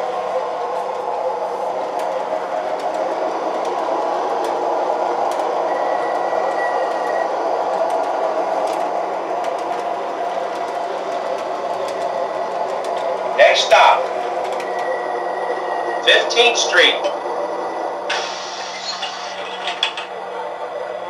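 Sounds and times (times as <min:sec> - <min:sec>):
model streetcars running on track: 0:00.0 - 0:21.0.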